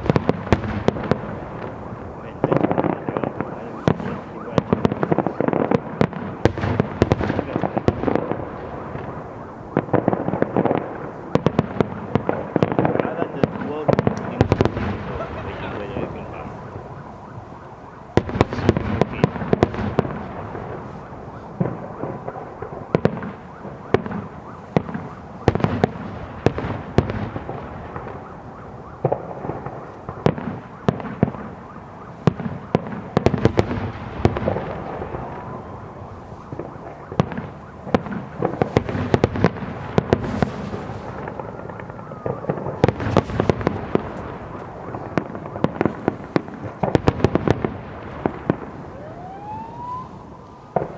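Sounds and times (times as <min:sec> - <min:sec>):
continuous din of explosions: 0:00.0 - 0:50.9
fireworks bangs and cracks: 0:00.0 - 0:50.9.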